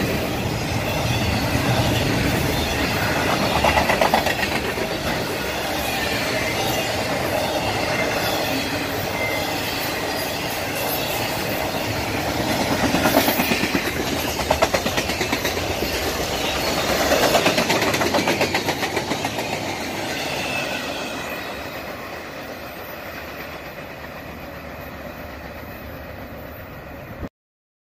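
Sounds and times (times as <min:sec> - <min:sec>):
freight train wheels clattering: 0:00.0 - 0:25.9.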